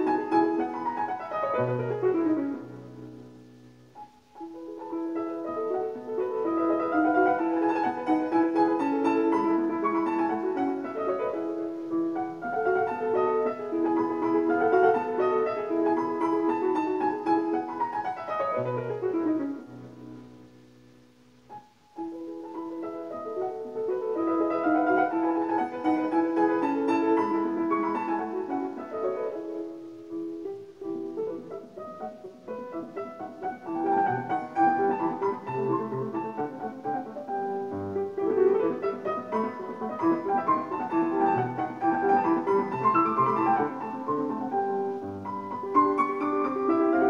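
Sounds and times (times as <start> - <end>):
solo piano music through speakers: 0.0 - 47.0.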